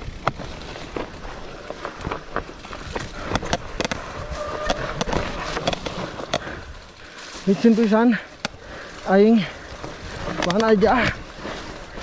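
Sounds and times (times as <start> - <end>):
bike knocking and clattering: 0.0 - 12.0
tyre noise: 0.0 - 12.0.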